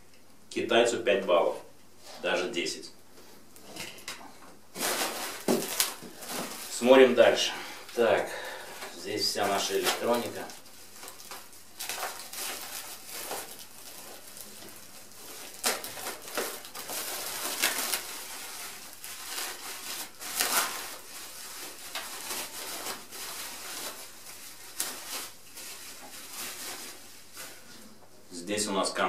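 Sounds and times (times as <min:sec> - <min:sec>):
plastic wrapping crinkling: 0:03.4 - 0:28.0.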